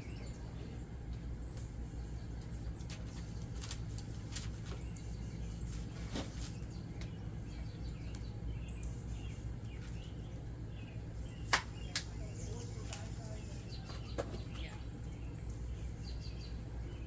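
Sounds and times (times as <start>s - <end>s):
birds chirping faintly: 0.0s - 17.0s
steady low hum: 0.0s - 17.0s.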